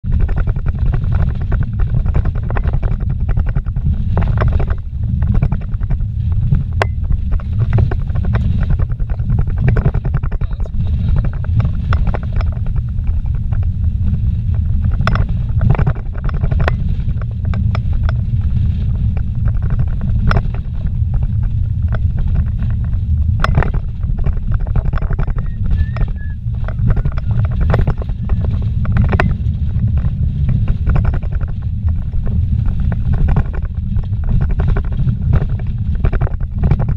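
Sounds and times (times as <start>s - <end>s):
tyres rumbling on dirt road: 0.0s - 36.9s
vehicle knocks and rattles: 0.0s - 36.9s.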